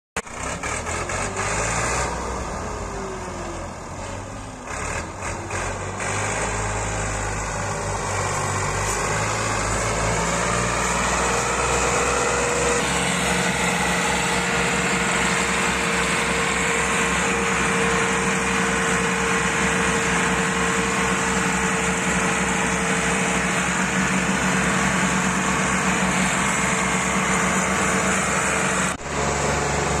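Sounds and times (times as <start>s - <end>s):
tractor engine running: 0.2s - 30.0s.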